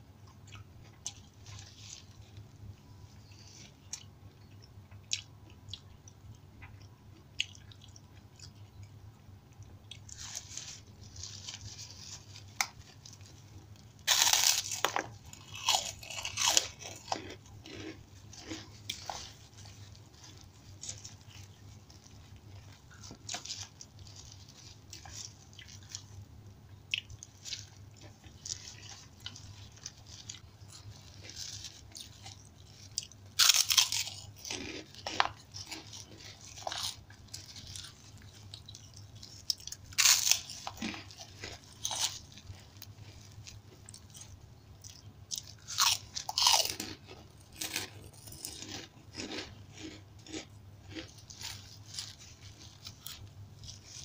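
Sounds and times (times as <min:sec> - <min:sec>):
crisp crunches of crackers: 0:10.0 - 0:26.3, 0:27.0 - 0:54.0.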